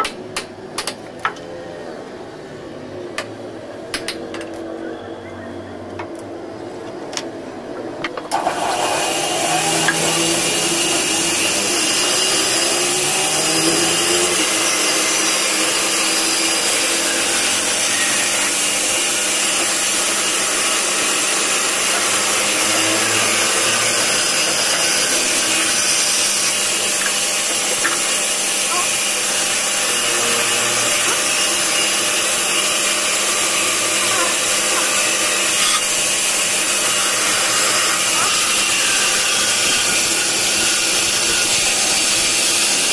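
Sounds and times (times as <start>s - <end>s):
bandsaw cutting wood: 8.3s - 42.9s.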